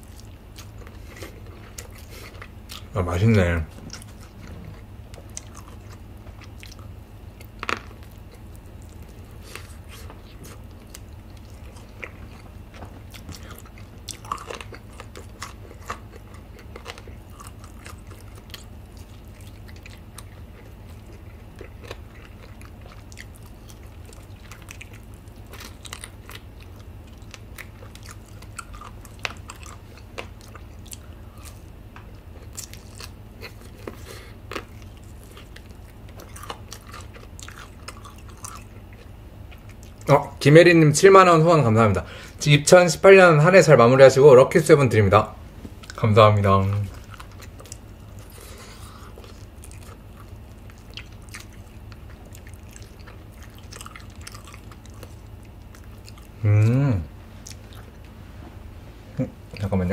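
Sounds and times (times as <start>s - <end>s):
chewing fried chicken crunches: 0.0s - 40.4s, 45.2s - 58.1s
steady low hum: 0.0s - 59.9s.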